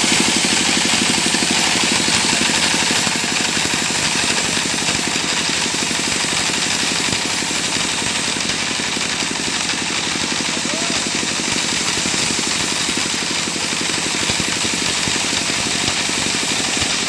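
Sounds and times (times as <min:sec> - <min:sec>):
broad hiss: 0:00.0 - 0:10.0, 0:10.6 - 0:17.0
engine pulsing: 0:00.0 - 0:17.0.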